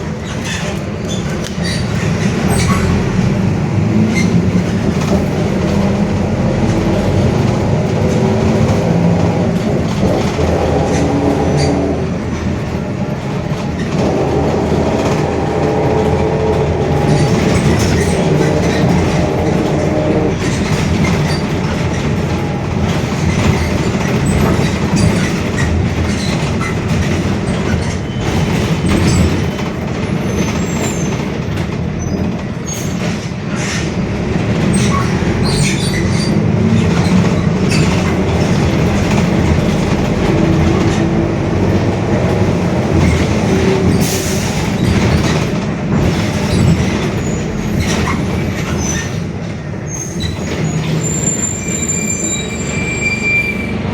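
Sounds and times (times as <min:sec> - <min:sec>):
bus diesel engine drone: 0:00.0 - 0:53.9
body rattling and clicking: 0:00.2 - 0:51.6.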